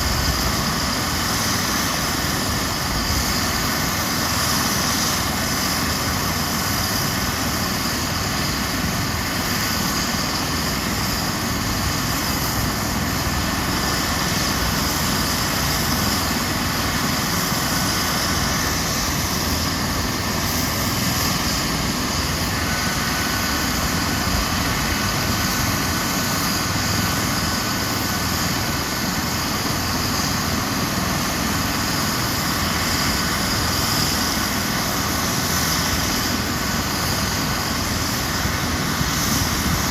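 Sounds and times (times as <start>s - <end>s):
helicopter engines and rotor: 0.0s - 39.9s
thin steady whine: 0.0s - 39.9s.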